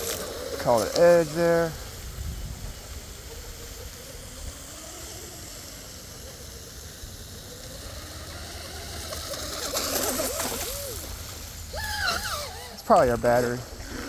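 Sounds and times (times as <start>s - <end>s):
background rush: 0.0s - 14.0s
distant motor whine: 0.0s - 14.0s.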